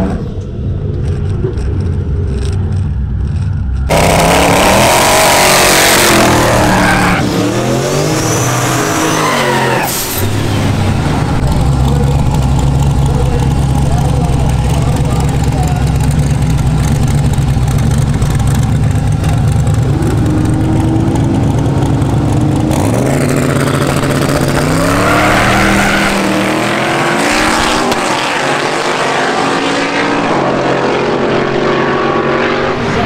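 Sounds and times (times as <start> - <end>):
drag car engines rumbling and revving: 0.0 - 33.0.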